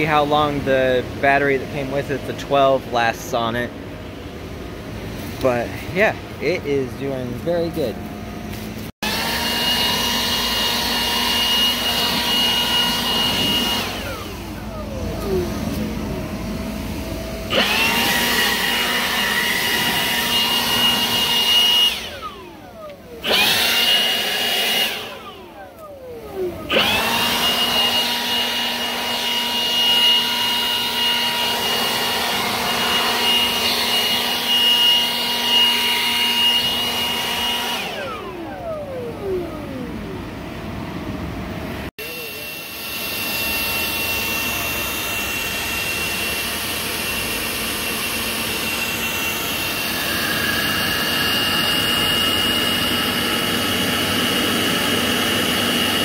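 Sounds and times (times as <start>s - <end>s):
leaf blower fan whine: 0.0s - 56.0s.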